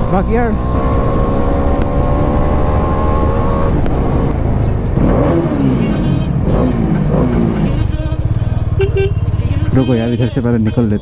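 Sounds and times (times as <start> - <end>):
higher droning tone: 0.0 - 10.6
motorcycle engine rumbling: 0.0 - 11.0.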